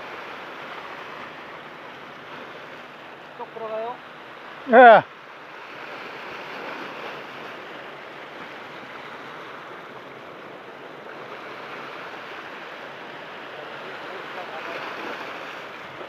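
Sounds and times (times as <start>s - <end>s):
ocean surf breaking over rocks: 0.0s - 16.0s.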